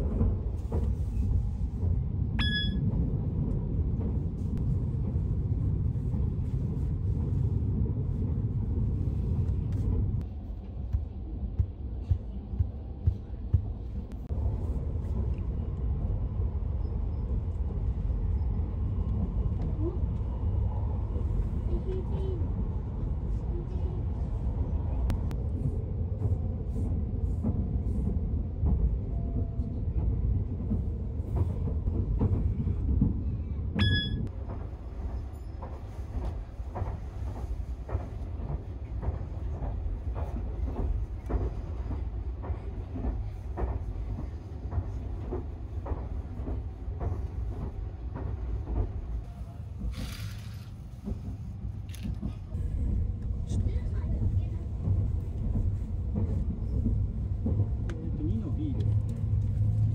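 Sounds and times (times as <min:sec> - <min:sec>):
train low rumble inside carriage: 0:00.0 - 0:59.9.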